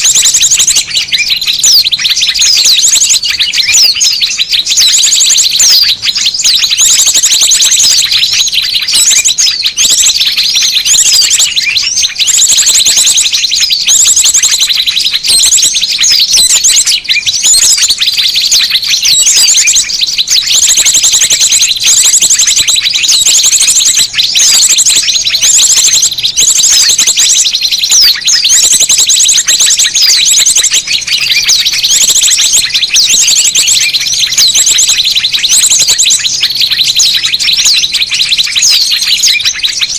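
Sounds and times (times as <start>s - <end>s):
many small birds chirping: 0.0s - 39.9s
rapid bird trills: 0.0s - 39.9s.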